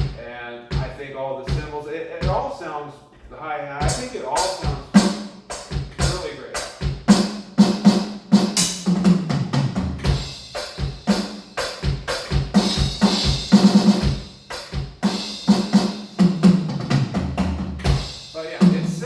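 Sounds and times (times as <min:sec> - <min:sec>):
drum groove: 0:00.0 - 0:19.0.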